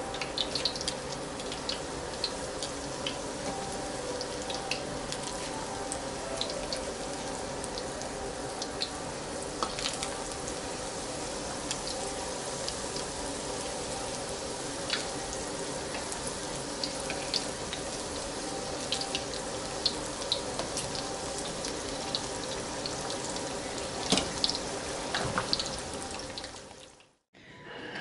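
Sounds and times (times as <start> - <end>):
food deep-frying in oil: 0.0 - 27.2.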